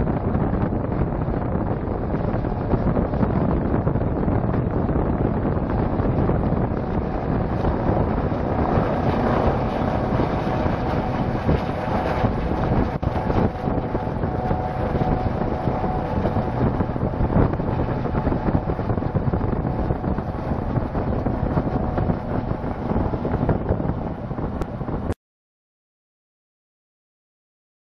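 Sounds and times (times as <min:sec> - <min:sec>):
wind buffeting microphone: 0:00.0 - 0:25.2.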